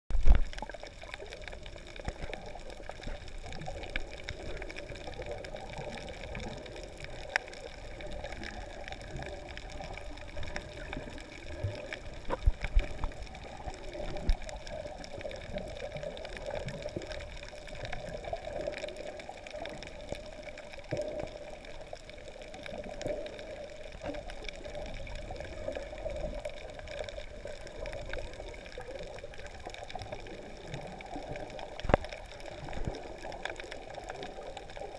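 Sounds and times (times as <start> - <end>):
faint clicks: 0.1 - 34.9
muffled underwater wash: 0.1 - 34.9.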